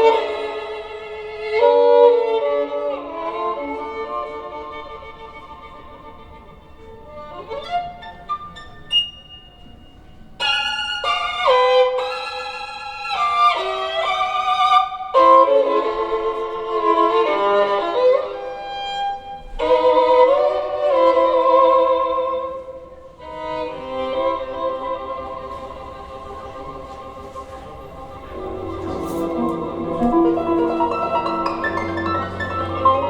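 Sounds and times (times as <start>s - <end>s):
violin music through loudspeakers: 0.0s - 33.0s.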